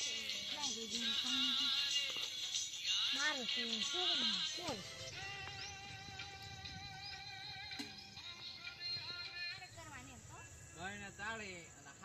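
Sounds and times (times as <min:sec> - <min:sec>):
background music: 0:00.0 - 0:10.8.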